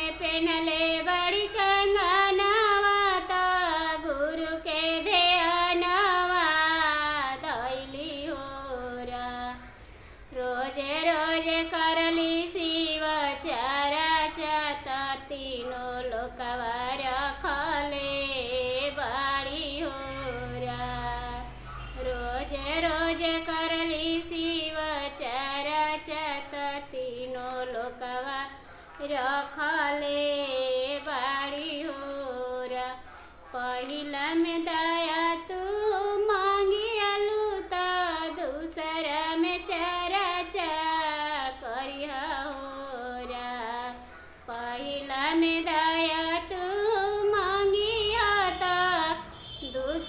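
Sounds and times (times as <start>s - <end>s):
woman singing devotional song: 0.0s - 50.0s.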